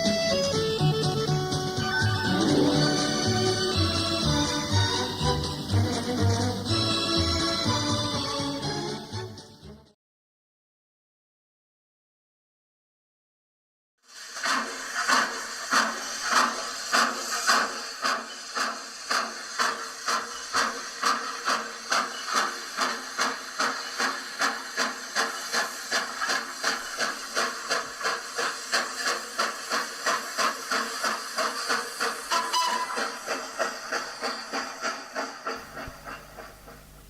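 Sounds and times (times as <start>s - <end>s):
model steam locomotive chuffing: 0.0s - 9.6s, 14.0s - 37.0s.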